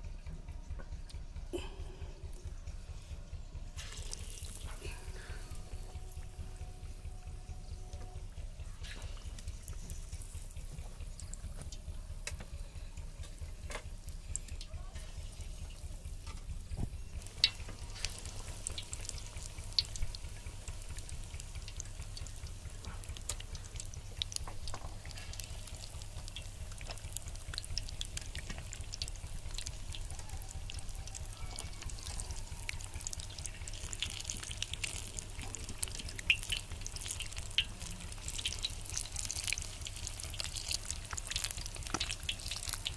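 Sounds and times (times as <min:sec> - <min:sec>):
steady low hum: 0:00.0 - 0:42.9
pakoras sizzling in hot oil: 0:03.7 - 0:07.8, 0:08.7 - 0:42.9.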